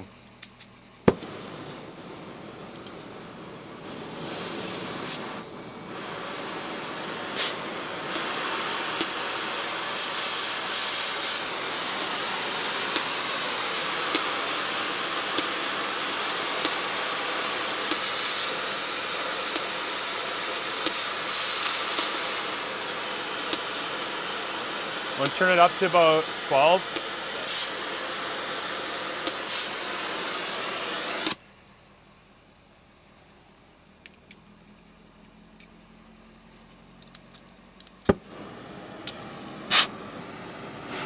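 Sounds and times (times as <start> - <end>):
cutting torch hissing: 1.1 - 31.4, 38.1 - 41.0.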